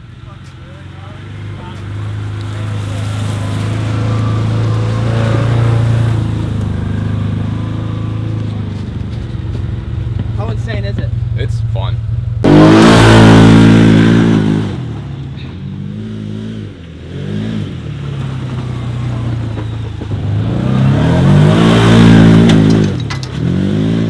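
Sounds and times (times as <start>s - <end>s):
utility vehicle engine revving: 0.0s - 24.0s.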